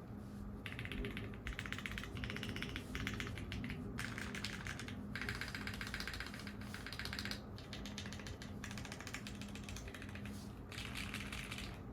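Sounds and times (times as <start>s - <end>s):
rapid mechanical keyboard typing: 0.6s - 11.9s.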